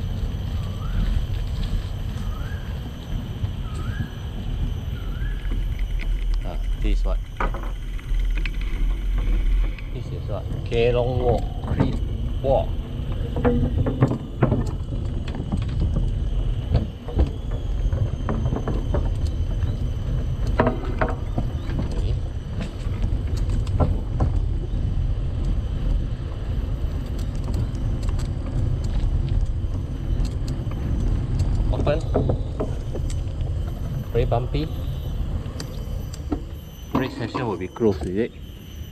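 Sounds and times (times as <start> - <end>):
bicycle rattling over wooden planks: 0.0 - 38.9
wind rumble on microphone: 0.0 - 38.9.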